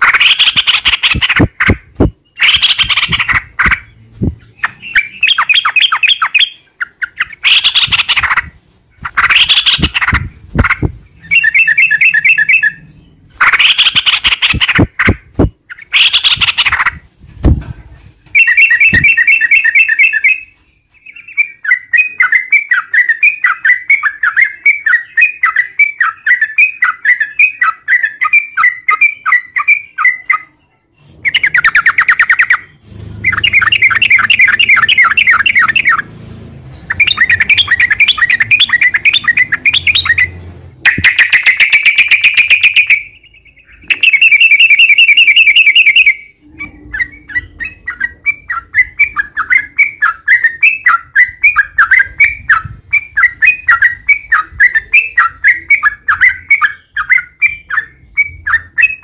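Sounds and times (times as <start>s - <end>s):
bird singing: 0.0s - 17.0s, 18.4s - 36.1s, 36.8s - 59.0s.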